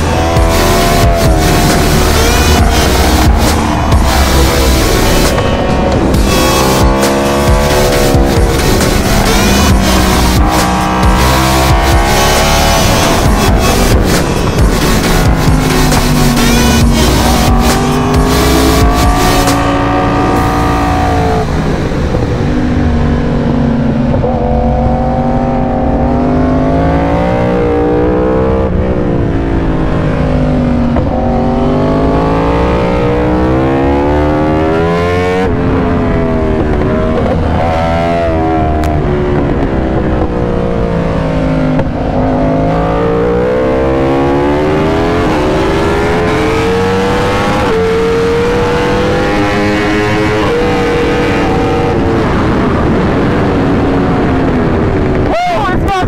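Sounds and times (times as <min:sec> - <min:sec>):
motorcycle engine revving: 0:00.0 - 0:55.3.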